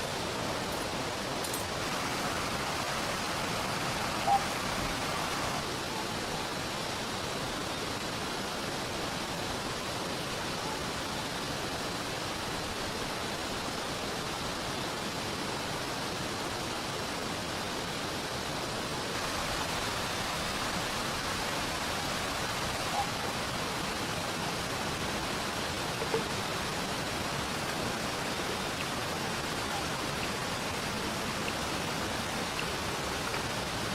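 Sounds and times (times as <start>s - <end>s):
falling rain: 0.0s - 33.9s
flowing river water: 0.0s - 33.9s.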